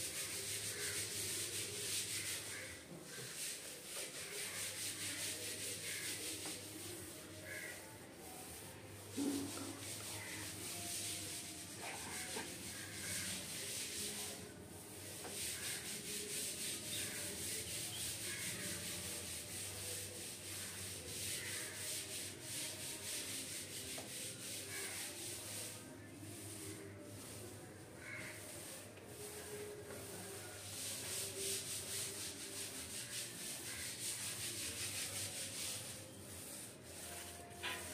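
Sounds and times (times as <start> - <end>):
paint roller rolling on wall: 0.0 - 37.9.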